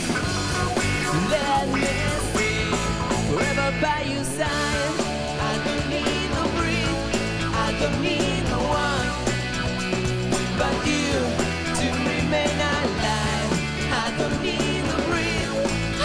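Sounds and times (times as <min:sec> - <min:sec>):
rock band playing live: 0:00.0 - 0:16.0
man singing: 0:01.0 - 0:09.3, 0:10.5 - 0:16.0.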